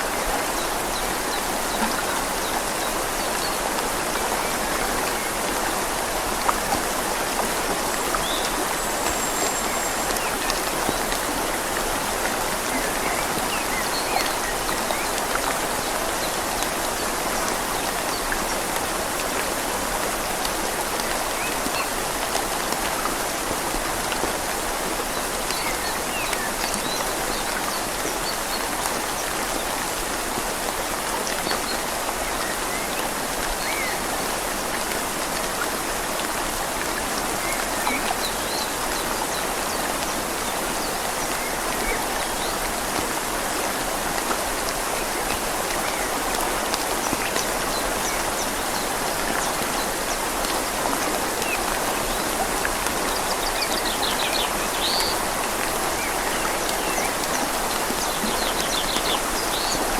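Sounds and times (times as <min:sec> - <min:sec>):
rain falling on leaves: 0:00.0 - 0:59.9
river flowing: 0:00.0 - 0:59.9.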